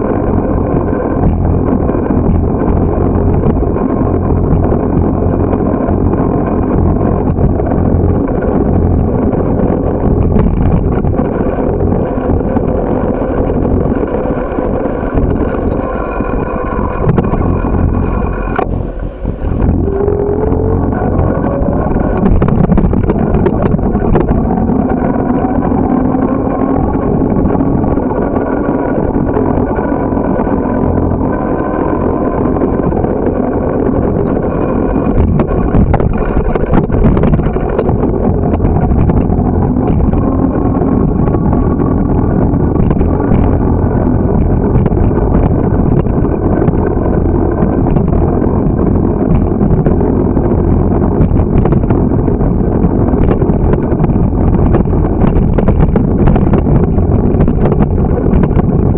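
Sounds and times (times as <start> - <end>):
wind and road noise: 0.0 - 58.9.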